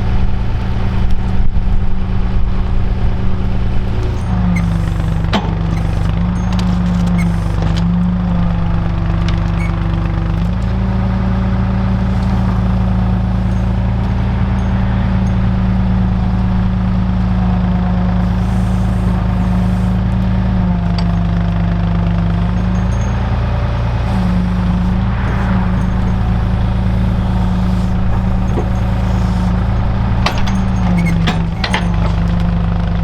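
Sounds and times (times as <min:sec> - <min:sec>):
machine engine running: 0:00.0 - 0:33.0.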